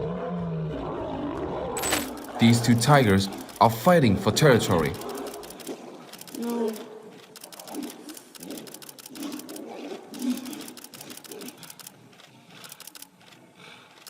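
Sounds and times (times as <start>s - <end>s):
tigers growling: 0.0s - 14.0s.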